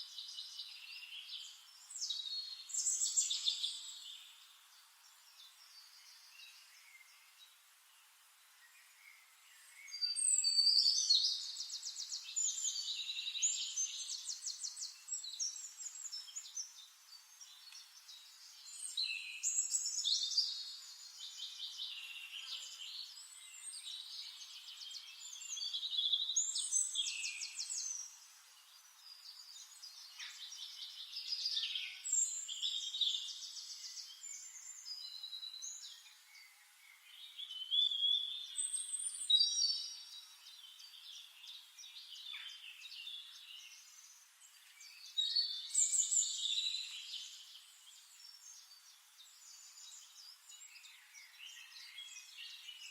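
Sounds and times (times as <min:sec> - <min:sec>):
songbird singing trills: 0:00.0 - 0:07.6, 0:08.6 - 0:52.9.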